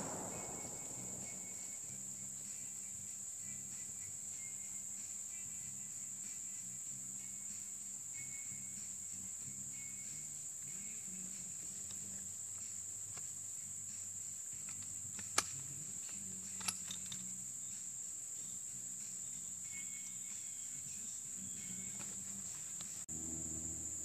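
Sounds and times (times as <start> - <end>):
high insect chorus: 0.0 - 24.0.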